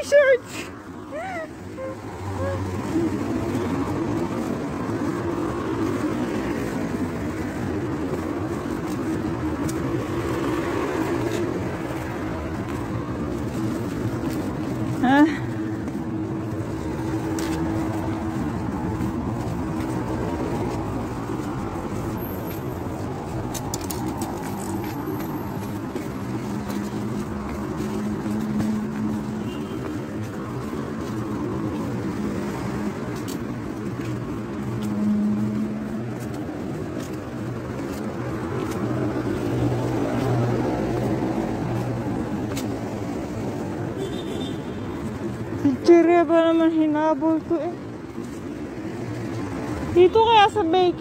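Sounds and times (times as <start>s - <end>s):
car engine hum: 0.0s - 44.0s
road rushing noise: 0.0s - 51.0s.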